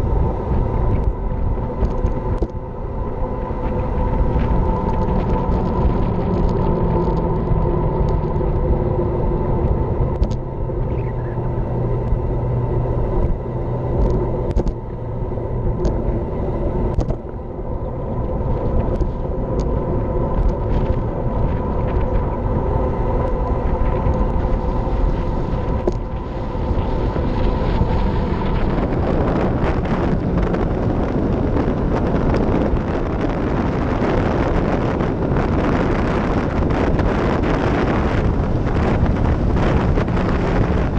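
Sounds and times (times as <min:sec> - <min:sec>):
bicycle road noise: 0:00.0 - 0:40.9
steady hum: 0:00.0 - 0:40.9
wind rushing over microphone: 0:00.0 - 0:40.9.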